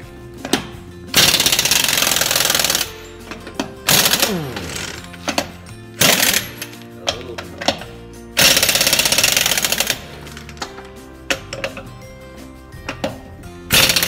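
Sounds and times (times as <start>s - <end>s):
pneumatic impact wrench hammering: 0.4s - 11.9s, 12.8s - 14.0s.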